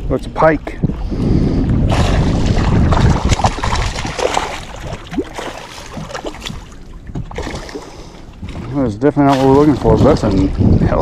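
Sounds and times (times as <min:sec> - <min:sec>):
water splashing around boat: 0:00.0 - 0:11.0
wind rumbling on microphone: 0:00.0 - 0:11.0.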